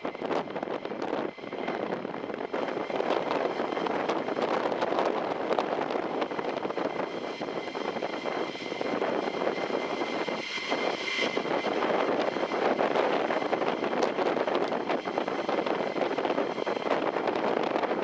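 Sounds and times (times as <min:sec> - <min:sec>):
distant jet rumble: 0:00.0 - 0:18.0
high jet engine whine: 0:00.0 - 0:18.0
wind buffeting microphone: 0:00.0 - 0:18.0.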